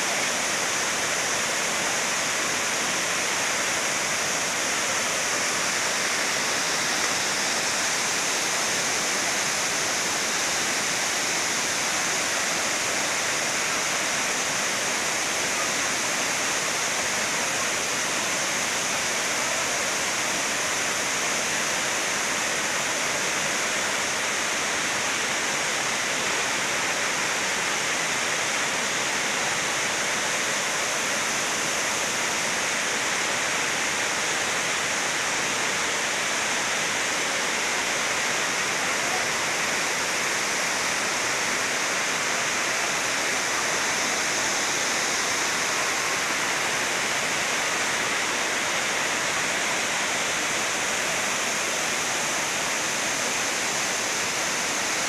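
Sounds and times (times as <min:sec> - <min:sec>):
waterfall rushing over rock ledges: 0:00.0 - 0:55.0.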